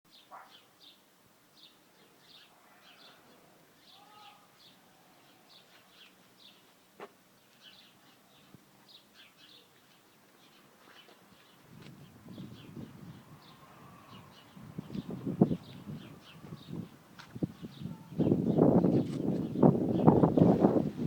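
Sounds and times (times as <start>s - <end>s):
faint bird chirping: 1.6s - 20.6s.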